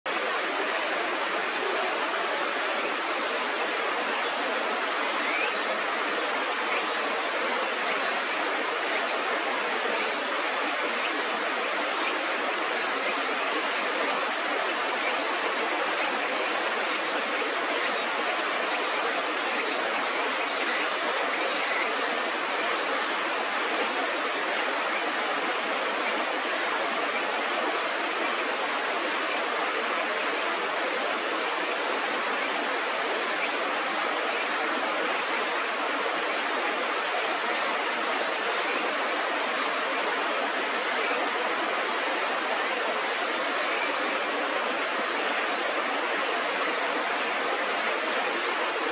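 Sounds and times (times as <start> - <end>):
river water rushing: 0.1 - 48.9.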